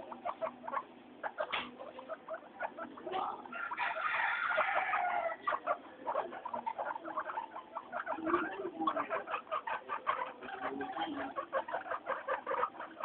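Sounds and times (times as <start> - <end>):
guinea pigs calling: 0.0 - 13.0.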